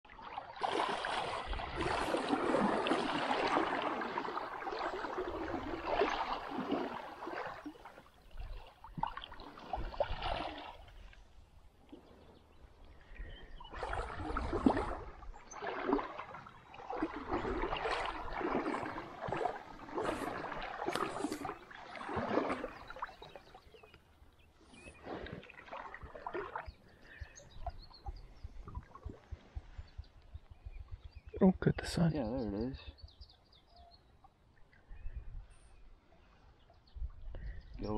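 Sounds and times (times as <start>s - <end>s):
water splashing and sloshing: 0.0s - 37.9s.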